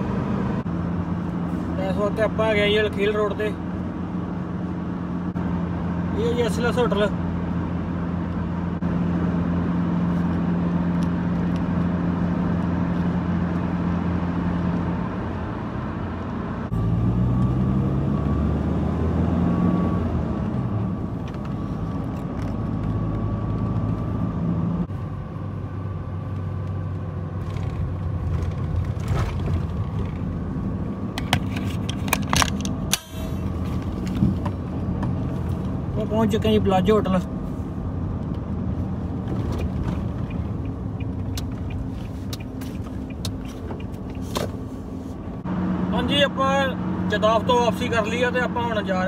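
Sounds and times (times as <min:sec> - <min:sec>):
car engine and road noise: 0:00.0 - 0:49.0.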